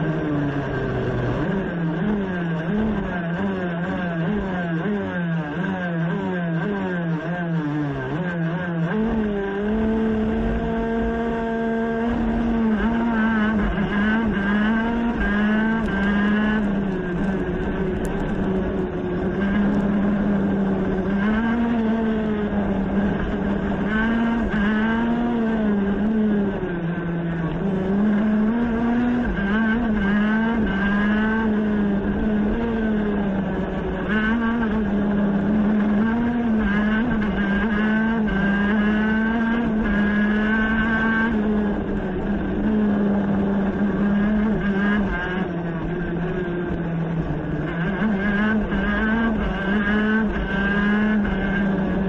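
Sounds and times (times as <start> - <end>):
racing kart engine revving: 0.0 - 52.0.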